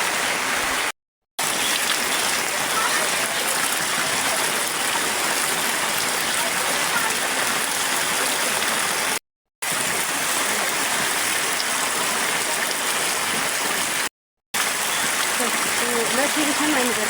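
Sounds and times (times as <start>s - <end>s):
fast-flowing water rushing: 0.0s - 17.0s.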